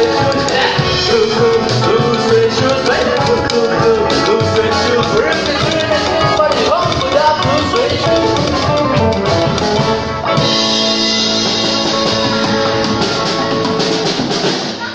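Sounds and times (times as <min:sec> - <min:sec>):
rockabilly music: 0:00.0 - 0:14.9.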